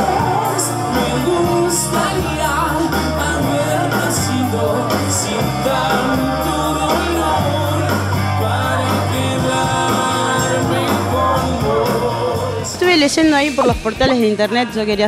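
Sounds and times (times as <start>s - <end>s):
man singing: 0.0s - 12.8s
rock band playing live: 0.0s - 15.0s.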